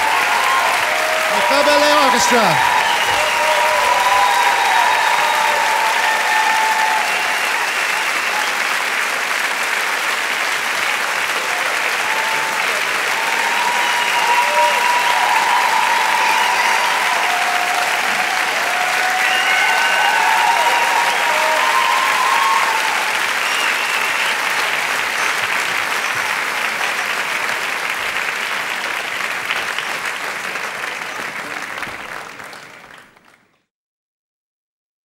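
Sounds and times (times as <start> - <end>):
audience cheering: 0.0 - 9.4, 11.0 - 32.7
audience applauding: 0.0 - 33.6.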